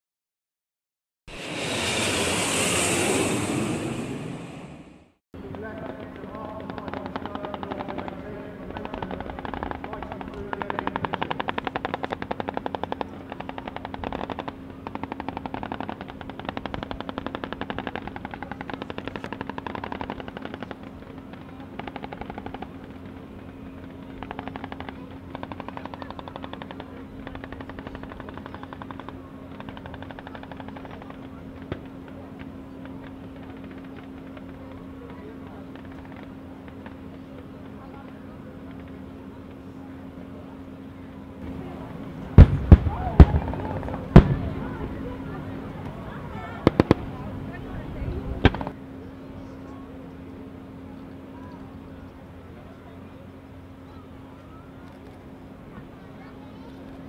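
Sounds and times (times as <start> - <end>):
steady low hum: 1.3 - 57.0.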